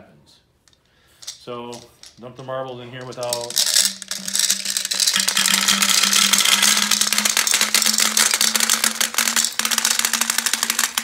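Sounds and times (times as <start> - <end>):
glass marbles clattering into tube: 1.1 - 11.0.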